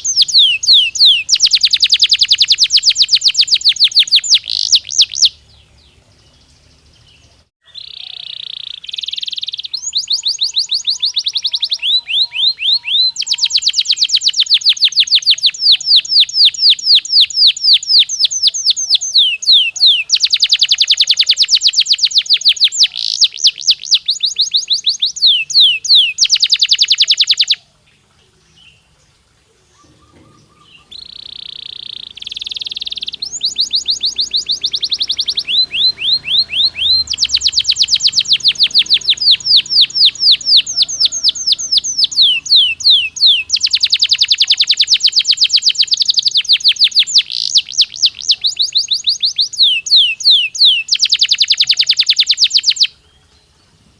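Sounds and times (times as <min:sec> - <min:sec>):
canary singing: 0:00.0 - 0:29.0, 0:29.7 - 0:53.6.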